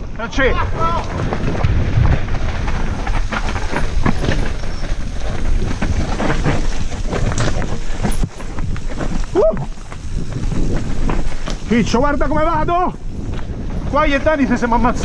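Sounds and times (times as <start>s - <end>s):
tyres rolling over stones: 1.0s - 15.0s
bike clattering and knocking: 1.1s - 15.0s.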